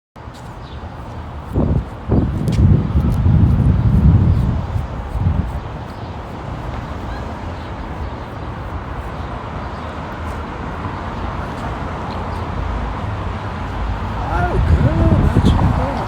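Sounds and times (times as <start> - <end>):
street background hiss: 0.2 - 16.0.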